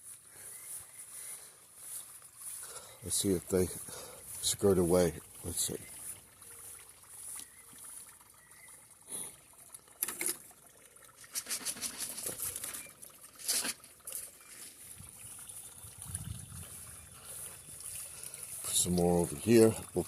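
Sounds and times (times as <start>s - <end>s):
pond water trickling: 0.0s - 20.0s.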